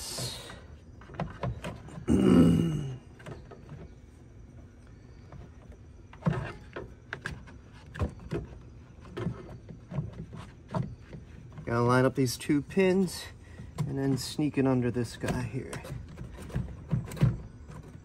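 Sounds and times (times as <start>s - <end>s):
plastic tank rubbing: 3.1s - 18.0s.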